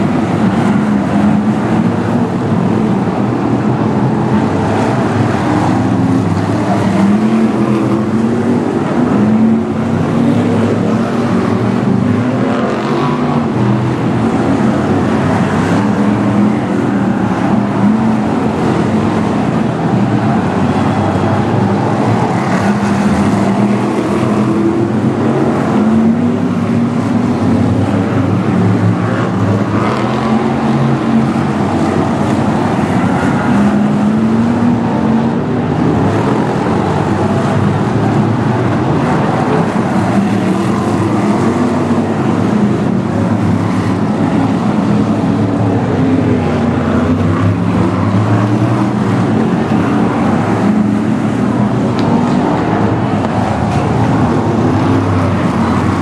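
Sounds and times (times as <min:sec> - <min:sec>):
stock car engines racing: 0:00.0 - 0:56.0.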